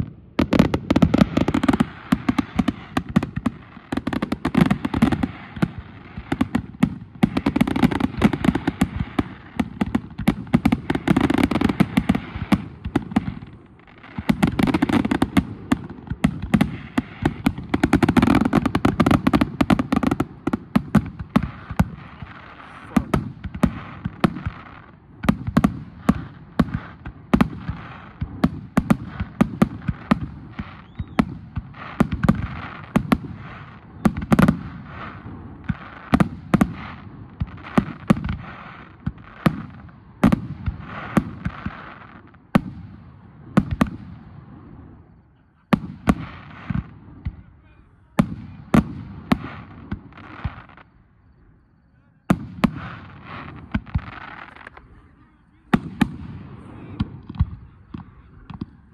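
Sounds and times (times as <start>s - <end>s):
fireworks crackle: 0.0s - 58.9s.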